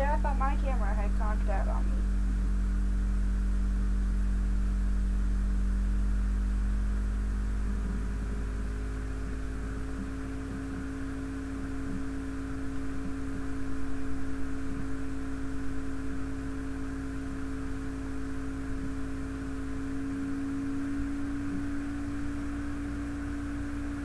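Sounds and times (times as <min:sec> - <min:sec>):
faint tones and hiss: 0:00.0 - 0:24.0
low electrical hum: 0:00.0 - 0:24.0.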